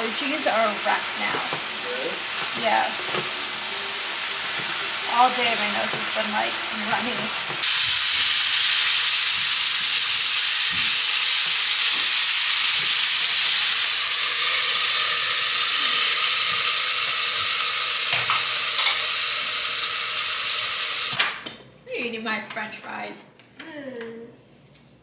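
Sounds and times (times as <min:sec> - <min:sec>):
food sizzling in hot oil: 0:00.0 - 0:21.2.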